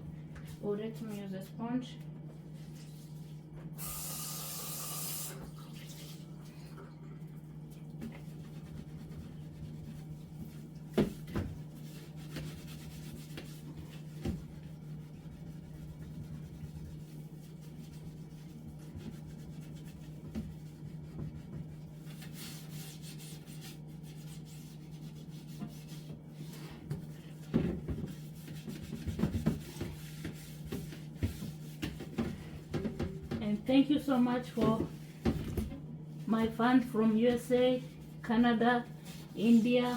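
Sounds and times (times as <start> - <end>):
steady low hum: 5.3 - 39.9
sponge scrubbing refrigerator: 7.3 - 39.9.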